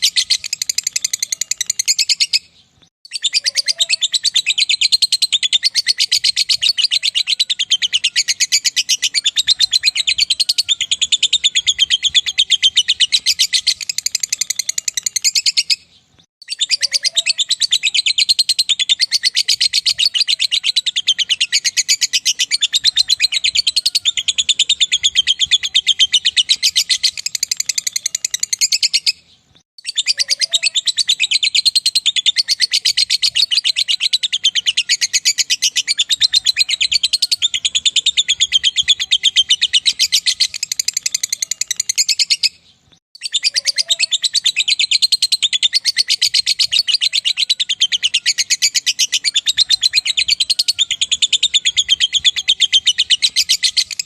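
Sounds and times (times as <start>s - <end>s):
lovebird shrill chatter: 0.0s - 2.5s, 3.1s - 42.6s, 43.2s - 54.0s.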